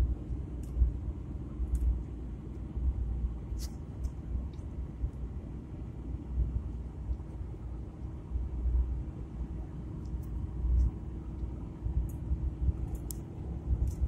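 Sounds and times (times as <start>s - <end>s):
low buffeting rumble: 0.0s - 14.0s
road and engine rumble in car: 0.0s - 14.0s.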